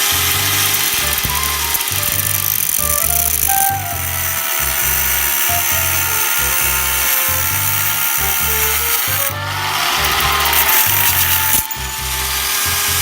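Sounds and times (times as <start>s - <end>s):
background music with bass line: 0.0s - 13.0s
power tool hissing and whining: 0.0s - 13.0s.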